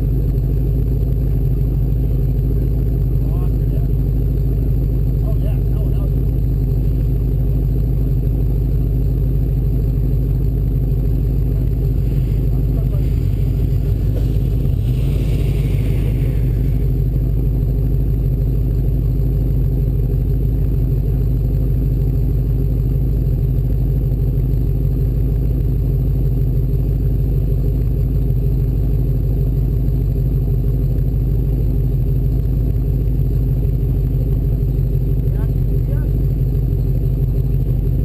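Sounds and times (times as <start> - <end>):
off-road vehicle engine drone: 0.0 - 38.0.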